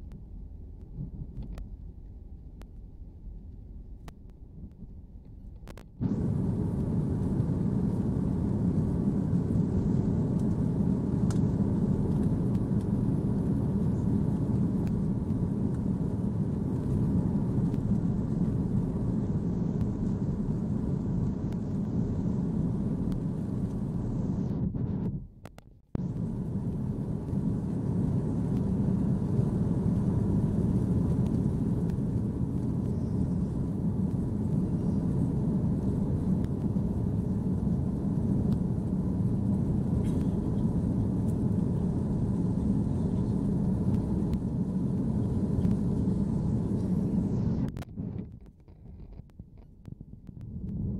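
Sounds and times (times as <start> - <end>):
jet engine rumble in cabin: 0.0 - 50.9.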